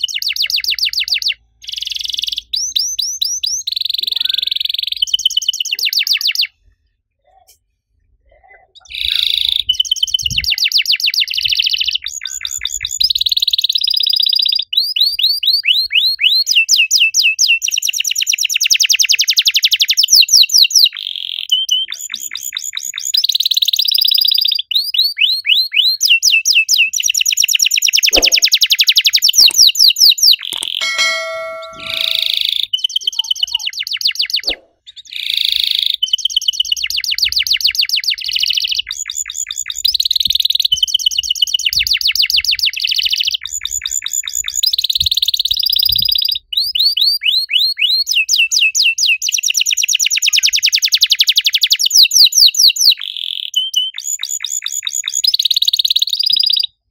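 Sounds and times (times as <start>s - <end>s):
canary singing trills: 0.0s - 6.5s, 8.3s - 56.8s.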